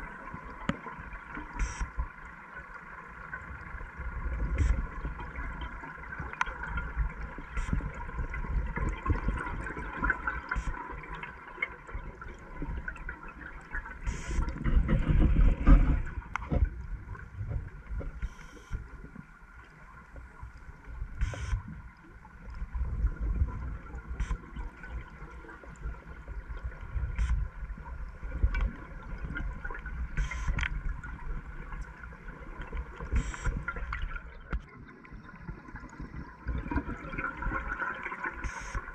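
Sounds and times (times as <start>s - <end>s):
faint steady hum: 0.0s - 38.9s
underwater bubbles gurgling: 0.0s - 38.9s.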